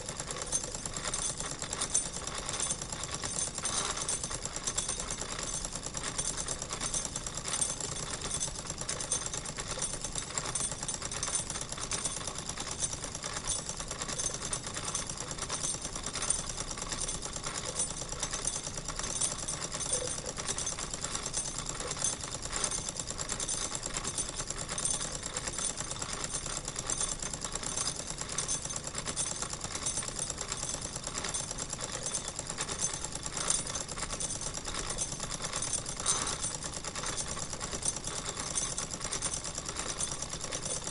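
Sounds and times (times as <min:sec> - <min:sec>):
toy steam engine running: 0:00.0 - 0:40.9.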